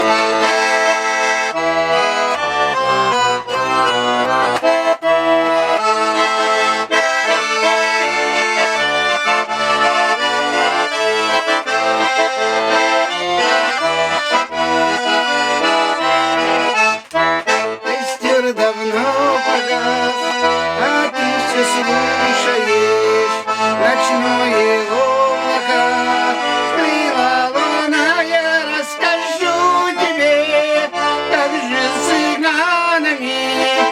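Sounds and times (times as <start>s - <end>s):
button accordion melody: 0.0s - 33.9s.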